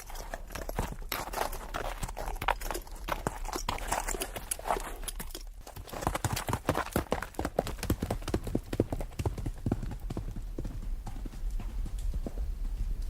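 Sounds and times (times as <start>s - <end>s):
horse hoofbeats clip-clop: 0.0s - 13.0s.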